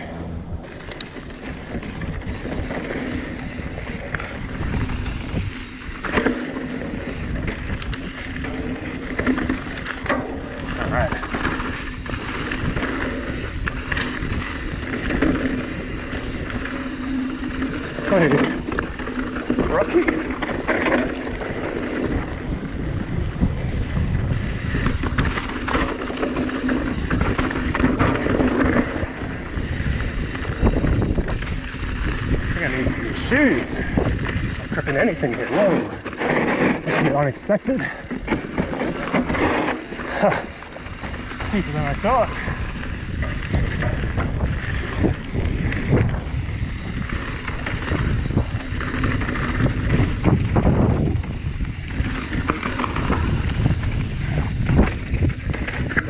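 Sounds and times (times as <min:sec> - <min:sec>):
bike tyres on dirt trail: 0:00.0 - 0:56.0
wind buffeting microphone: 0:00.0 - 0:56.0
bike frame rattling and clicking: 0:00.6 - 0:56.0.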